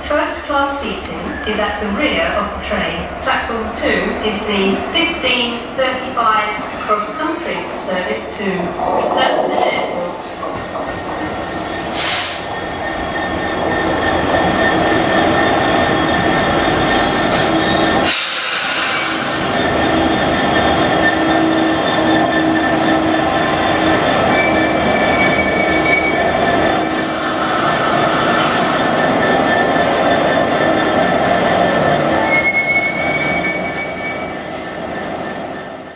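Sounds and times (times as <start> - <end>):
diesel locomotive engine droning: 0.0 - 35.9.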